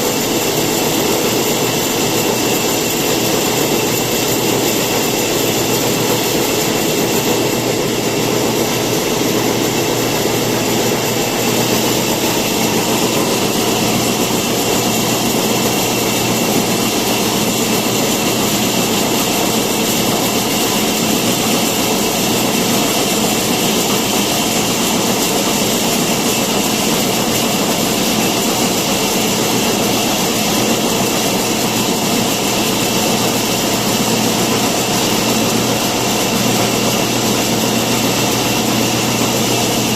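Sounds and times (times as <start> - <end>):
woodworking machine running: 0.0 - 39.9.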